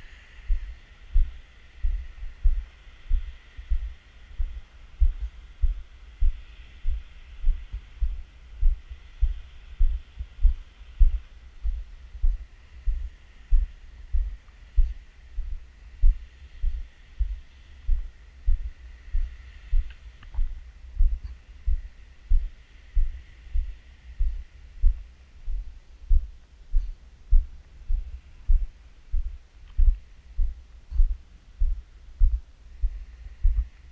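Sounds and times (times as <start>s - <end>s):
faint steady hiss: 0.0s - 33.9s.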